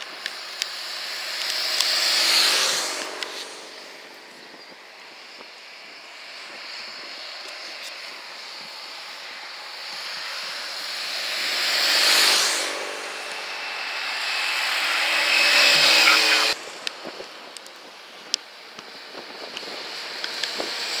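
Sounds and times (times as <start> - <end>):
motorcycles passing close: 0.0 - 21.0.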